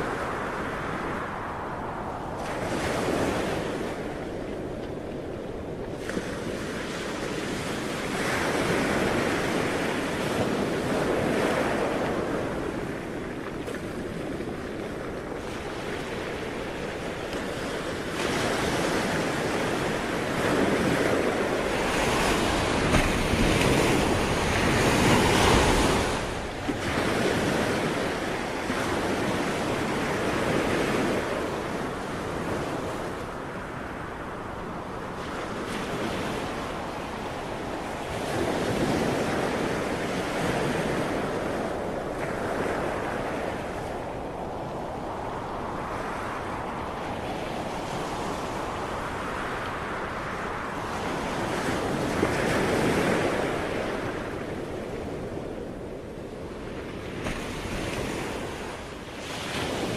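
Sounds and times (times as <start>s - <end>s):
ocean waves: 0.0s - 59.9s.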